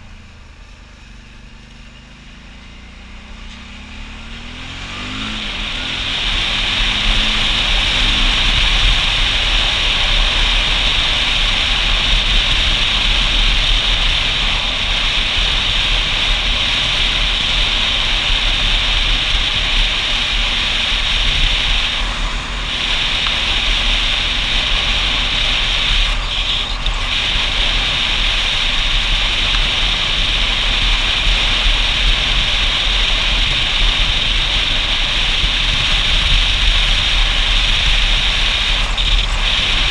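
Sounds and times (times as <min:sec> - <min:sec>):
faint motorcycle engine: 0:00.0 - 0:39.9
wind and road noise: 0:00.0 - 0:39.9.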